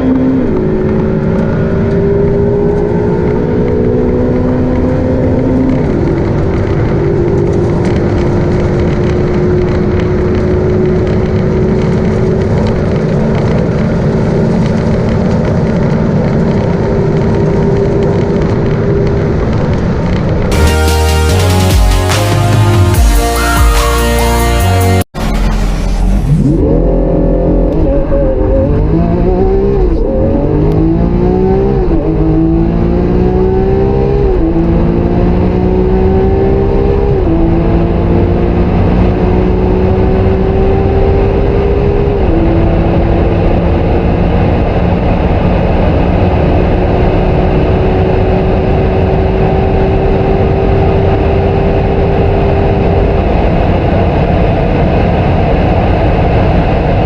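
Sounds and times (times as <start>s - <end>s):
car engine accelerating hard: 0.0s - 20.5s, 24.4s - 57.0s.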